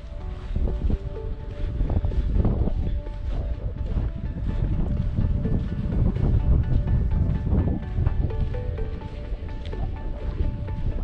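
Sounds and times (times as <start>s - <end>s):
background music: 0.0s - 11.0s
wind buffeting microphone: 0.0s - 11.0s.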